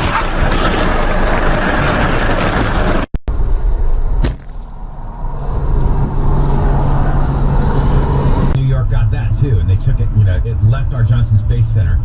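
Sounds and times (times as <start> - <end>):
loud vehicle and road noise: 0.0 - 12.0
low engine hum: 0.0 - 12.0.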